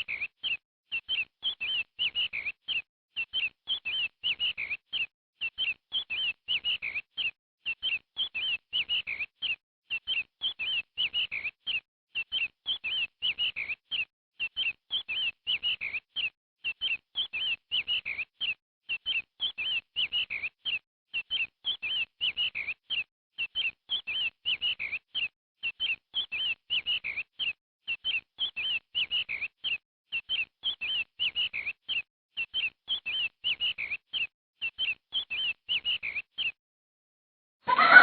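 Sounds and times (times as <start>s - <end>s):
small bird chirping: 0.0s - 36.6s, 37.7s - 38.0s.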